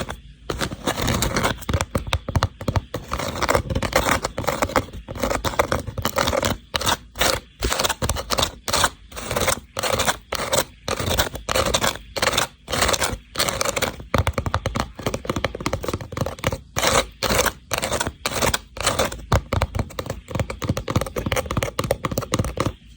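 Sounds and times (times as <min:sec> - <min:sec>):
scratching on rattan box: 0:00.0 - 0:22.8.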